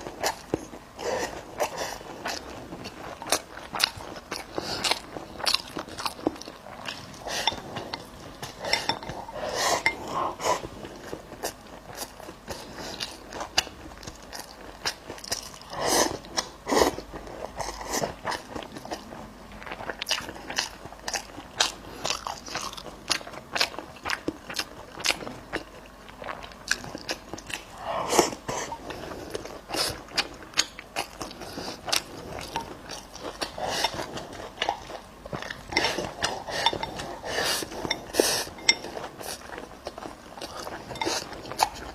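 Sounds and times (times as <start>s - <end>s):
person chewing and crunching food: 0.0s - 41.9s.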